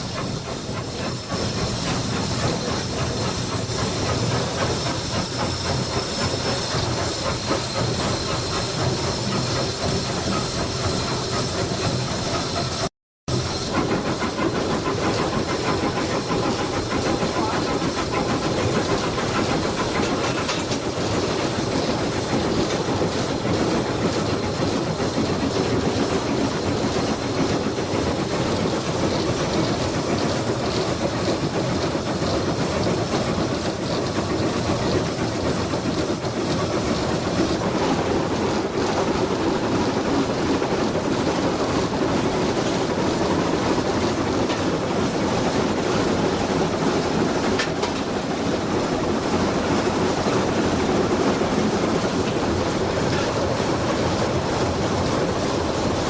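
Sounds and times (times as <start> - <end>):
steam hissing: 0.0 - 56.0
train running noise: 0.0 - 56.0.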